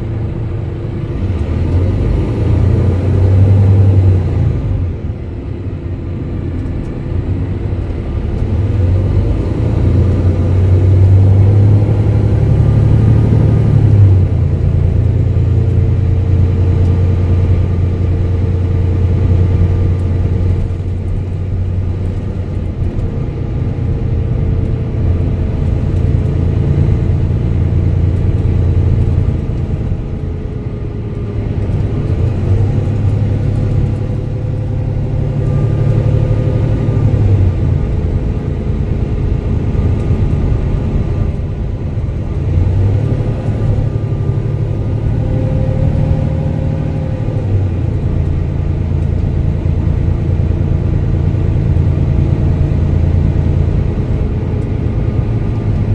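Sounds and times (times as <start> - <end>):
bus diesel engine drone: 0.0 - 55.9.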